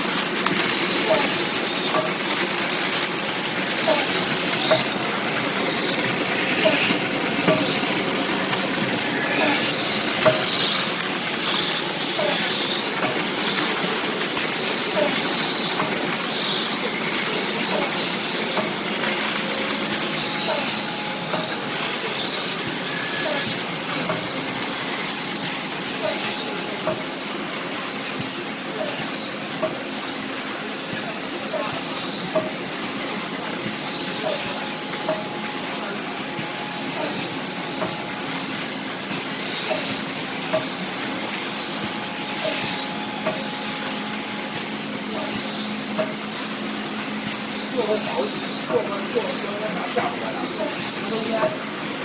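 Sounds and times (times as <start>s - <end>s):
packing machine whir and hiss: 0.0s - 52.0s.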